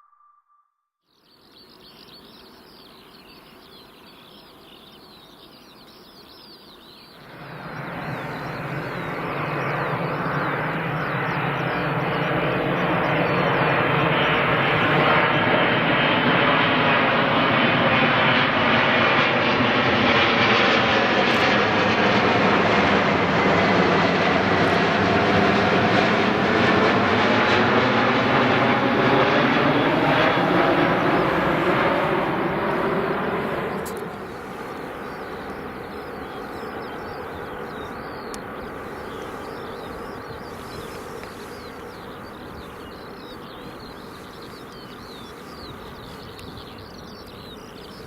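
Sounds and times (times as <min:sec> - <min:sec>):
jet engines passing: 0:07.2 - 0:48.0.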